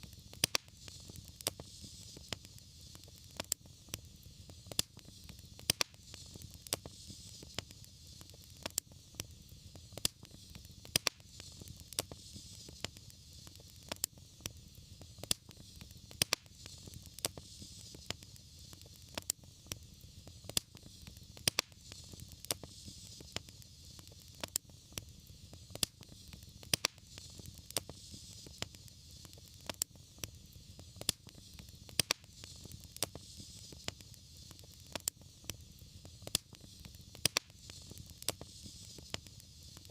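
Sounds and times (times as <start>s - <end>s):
fire rumble and hiss: 0.0s - 39.9s
wood fire pops and snaps: 0.0s - 39.9s.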